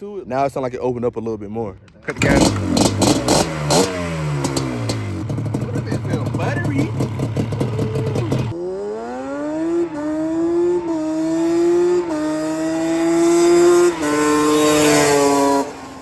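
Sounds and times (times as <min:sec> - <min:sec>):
two-stroke engine accelerating: 0:02.1 - 0:16.0.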